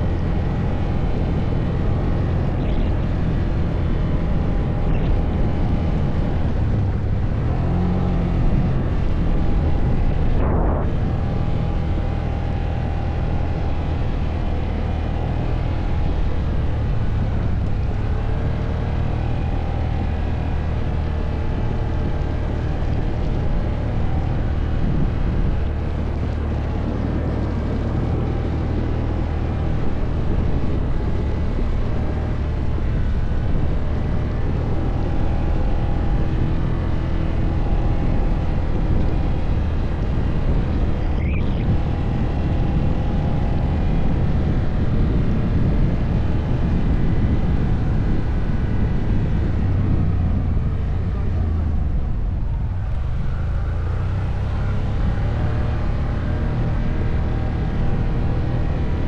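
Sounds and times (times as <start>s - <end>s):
atv engine droning: 0.0s - 59.0s.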